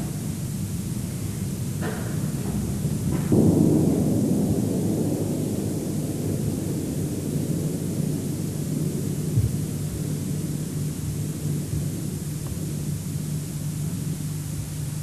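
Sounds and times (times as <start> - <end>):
low rumble with hiss: 0.0 - 15.0.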